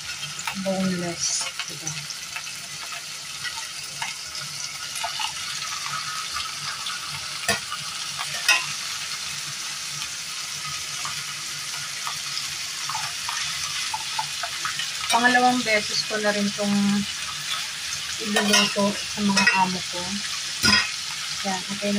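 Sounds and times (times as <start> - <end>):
meat sizzling in hot oil: 0.0 - 21.9.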